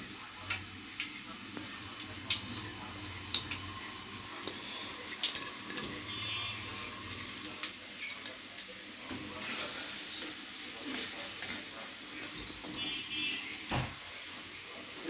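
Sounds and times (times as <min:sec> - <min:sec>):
fries sizzling in hot oil: 0:00.0 - 0:15.0.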